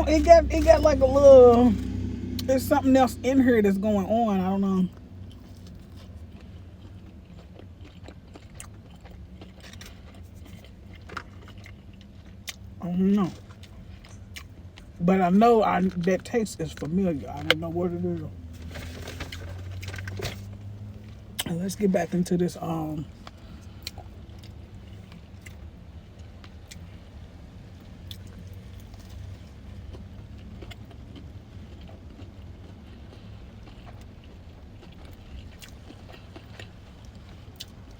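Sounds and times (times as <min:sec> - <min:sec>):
steady low hum: 0:00.0 - 0:37.9
person chewing food: 0:03.8 - 0:15.0, 0:15.8 - 0:21.6, 0:23.0 - 0:27.0, 0:27.7 - 0:37.9.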